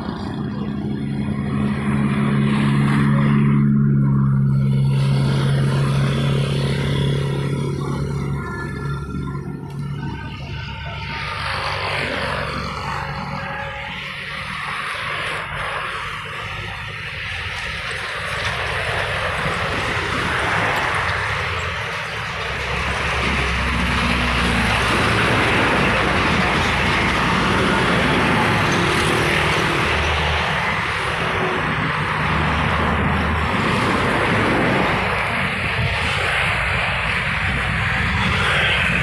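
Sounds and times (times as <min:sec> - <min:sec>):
deep engine drone: 0:00.0 - 0:39.0
highway traffic: 0:00.0 - 0:39.0.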